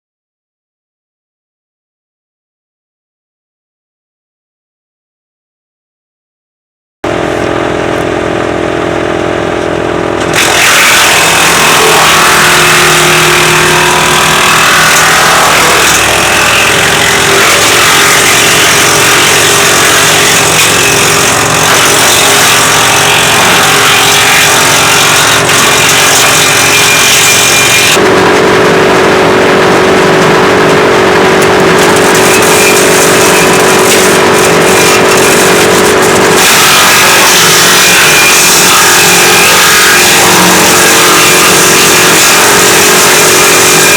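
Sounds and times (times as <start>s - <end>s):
woodchipper engine running: 7.0s - 43.9s.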